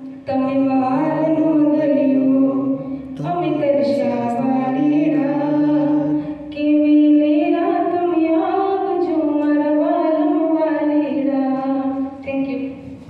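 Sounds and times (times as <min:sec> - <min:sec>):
woman singing: 0:00.2 - 0:12.8.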